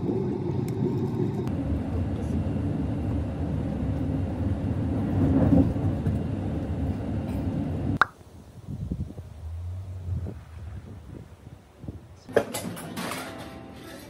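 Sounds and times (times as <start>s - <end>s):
vehicle rumble: 0.0s - 8.0s, 8.8s - 12.4s.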